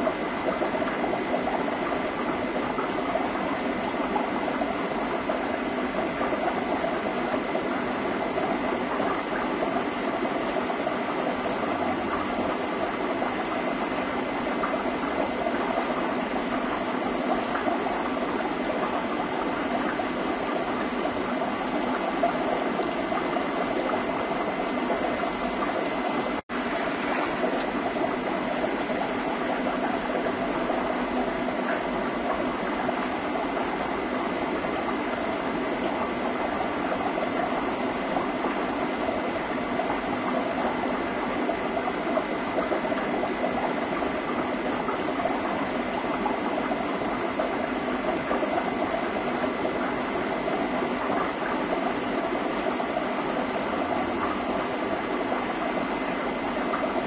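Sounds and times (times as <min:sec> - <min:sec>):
aquarium water bubbling: 0:00.0 - 0:57.0.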